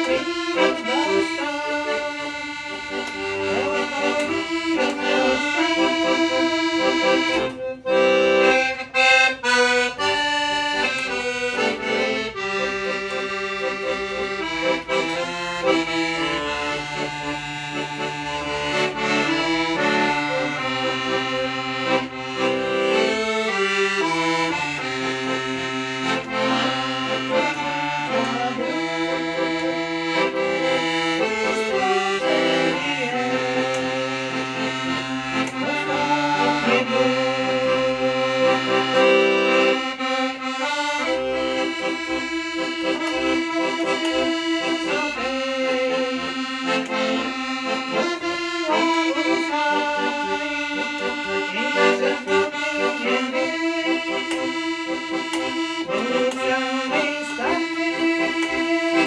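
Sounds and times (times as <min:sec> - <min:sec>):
accordion playing a tune: 0:00.0 - 0:59.0.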